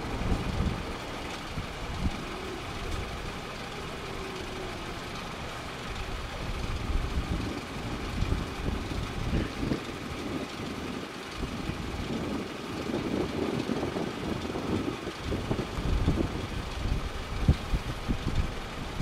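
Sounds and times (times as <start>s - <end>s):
distant engine hum: 0.0s - 19.0s
wind buffeting microphone: 0.0s - 19.0s.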